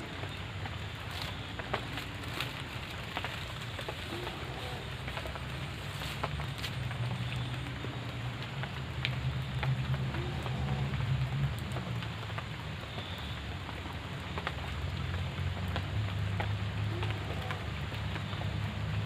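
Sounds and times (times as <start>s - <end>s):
rain drops ticking: 0.0s - 19.0s.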